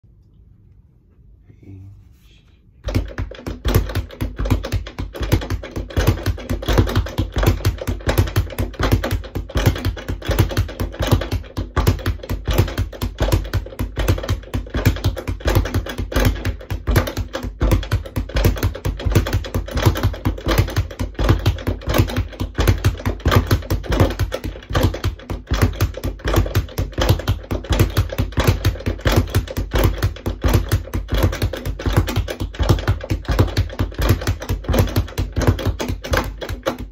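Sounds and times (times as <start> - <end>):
speed bag being punched: 2.8 - 36.9.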